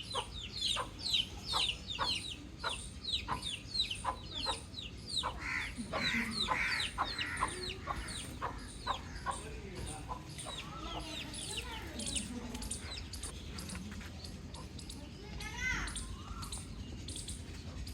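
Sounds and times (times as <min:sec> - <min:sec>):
baby chicks peeping: 0:00.0 - 0:17.9.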